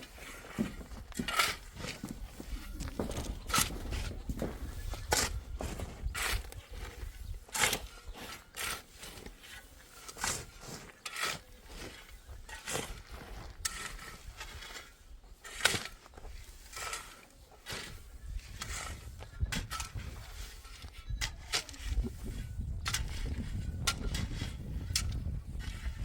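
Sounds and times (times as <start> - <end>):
irregular knocks and scrapes: 0.0 - 26.0.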